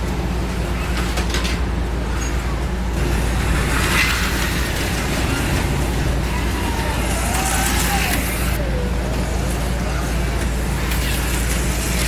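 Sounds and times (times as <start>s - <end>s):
steady low hum: 0.0s - 12.0s
slot car motor whining: 1.6s - 12.0s.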